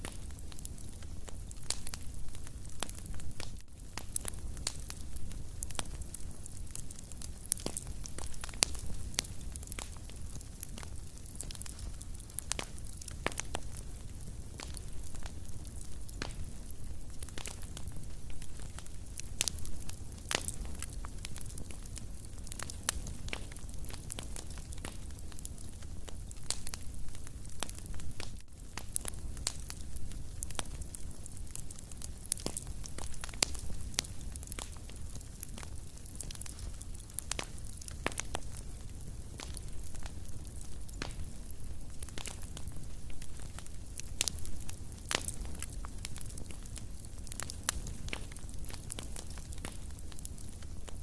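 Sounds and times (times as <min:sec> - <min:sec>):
fire crackling in fireplace: 0:00.0 - 0:51.0
low rumble of flames: 0:00.0 - 0:51.0.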